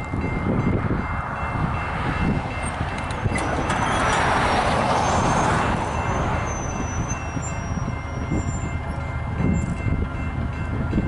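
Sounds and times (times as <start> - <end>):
distant freight train rumble: 0.0 - 11.0
wind on microphone: 0.0 - 11.0.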